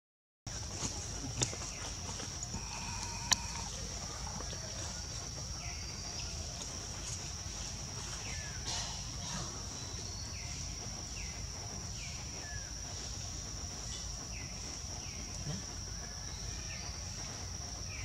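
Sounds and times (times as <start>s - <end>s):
high-pitched insect drone: 0.5s - 18.0s.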